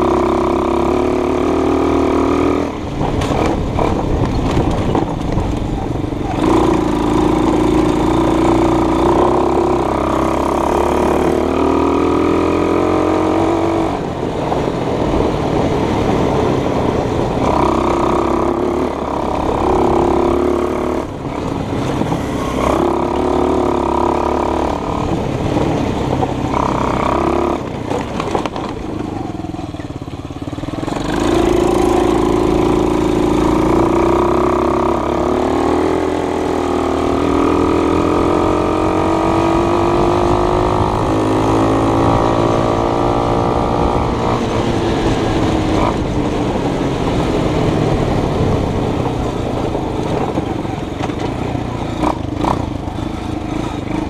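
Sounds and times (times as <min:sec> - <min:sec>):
vehicle engine accelerating: 0:00.0 - 0:54.0.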